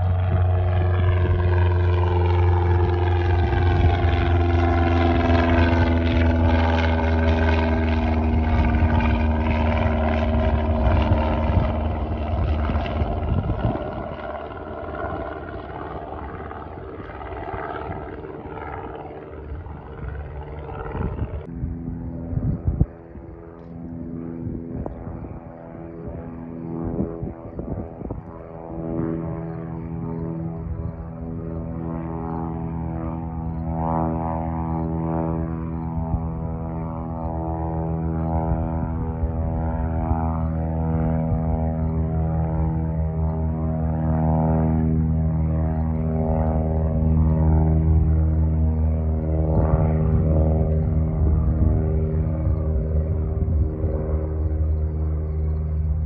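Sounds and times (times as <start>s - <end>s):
propeller airplane engine: 0.0s - 56.0s.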